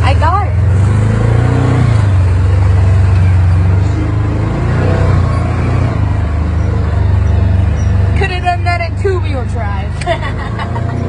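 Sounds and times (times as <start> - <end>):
off-road vehicle engine running hard: 0.0 - 11.0.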